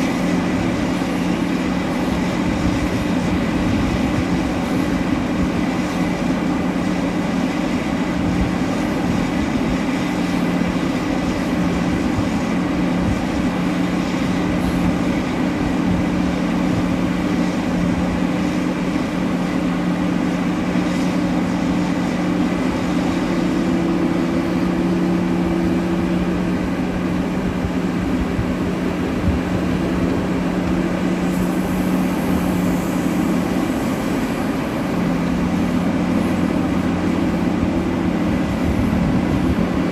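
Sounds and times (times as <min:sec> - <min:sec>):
heavy diesel machinery droning: 0:00.0 - 0:39.9.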